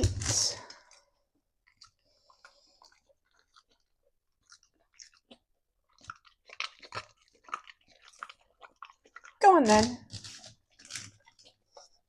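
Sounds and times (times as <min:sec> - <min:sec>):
dog chewing a treat: 0:01.6 - 0:09.4, 0:10.0 - 0:12.0.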